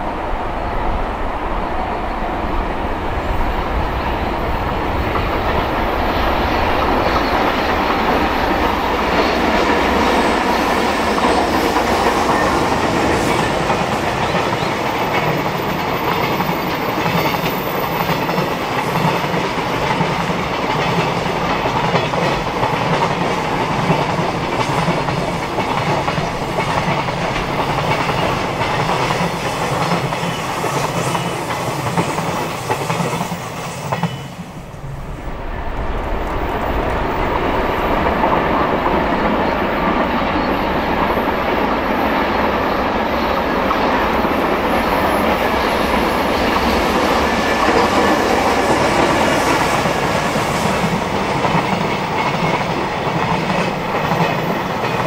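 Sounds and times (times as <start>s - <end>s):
freight train rumble: 0.0s - 55.0s
wheels clickety-clack over rails: 4.0s - 34.2s, 36.3s - 55.0s.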